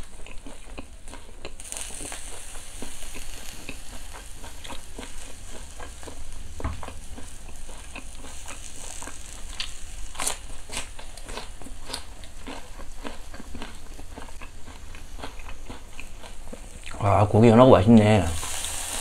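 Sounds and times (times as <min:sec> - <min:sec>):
meat sizzling on a grill: 0:00.0 - 0:19.0
crackling pops: 0:00.8 - 0:17.0.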